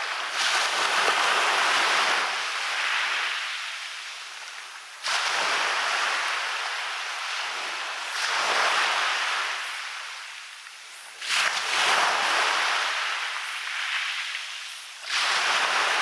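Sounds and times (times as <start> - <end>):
sea waves breaking on beach: 0.0 - 10.4, 11.2 - 16.0.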